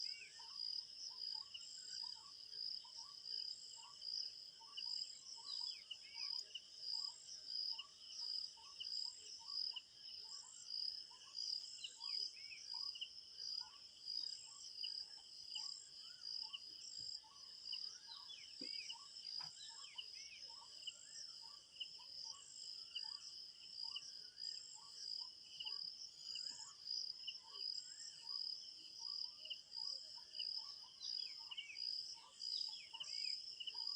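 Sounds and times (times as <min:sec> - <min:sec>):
insect chorus: 0:00.0 - 0:33.9.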